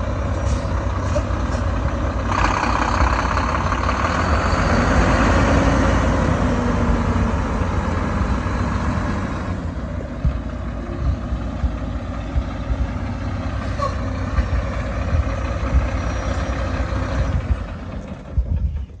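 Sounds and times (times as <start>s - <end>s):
truck diesel engine idling: 0.0s - 19.0s.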